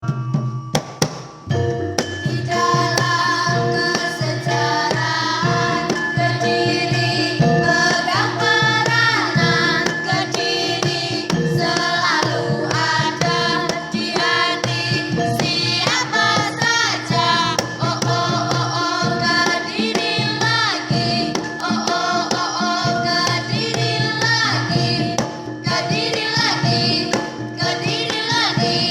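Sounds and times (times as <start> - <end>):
drum beats: 0.0 - 28.9
person singing with ornaments: 2.2 - 28.9.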